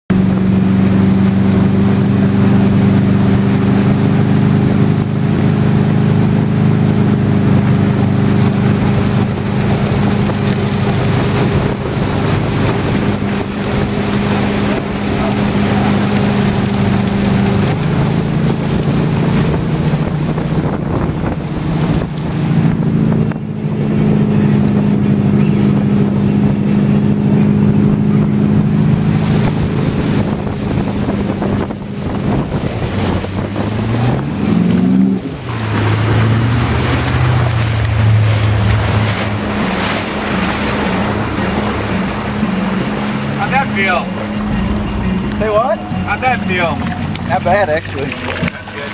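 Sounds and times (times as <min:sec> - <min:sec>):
boat engine running: 0:00.0 - 0:48.9
wind noise on microphone: 0:00.1 - 0:43.4
rushing water: 0:00.1 - 0:48.9.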